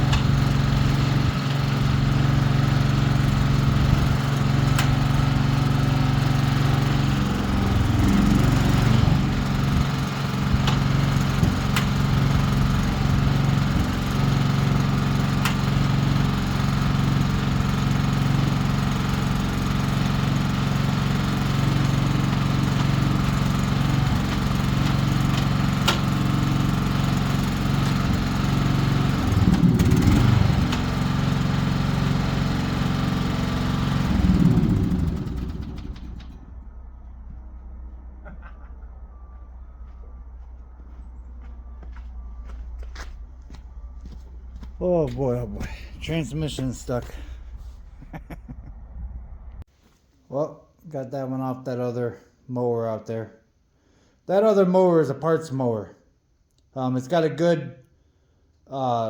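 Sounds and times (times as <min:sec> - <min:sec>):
motor droning: 0:00.0 - 0:49.6.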